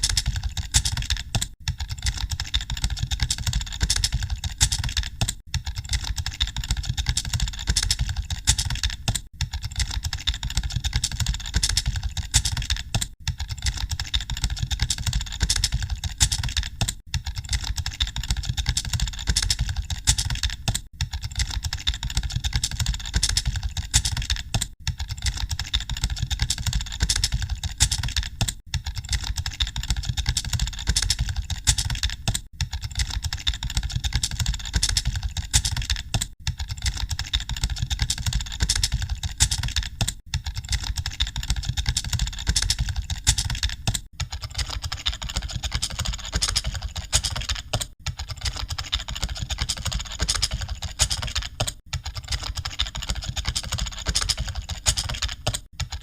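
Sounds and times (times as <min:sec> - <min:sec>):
many keyboards typing: 0:00.0 - 0:56.0.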